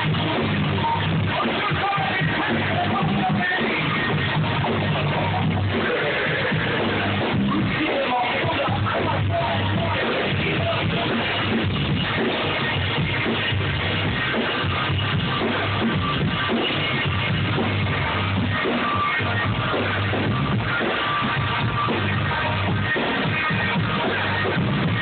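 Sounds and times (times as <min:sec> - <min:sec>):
heavy electric bass line: 0:00.0 - 0:25.0
live band music: 0:00.0 - 0:25.0.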